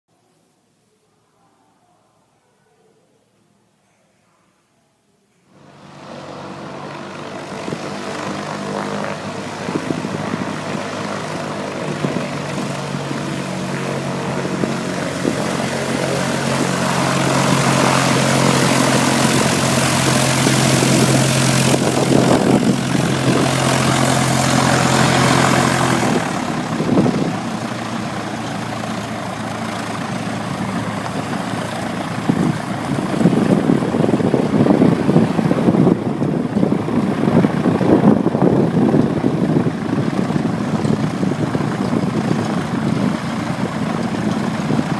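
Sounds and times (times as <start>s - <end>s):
propeller aircraft engine droning: 5.5s - 44.9s
rushing air: 5.6s - 44.9s.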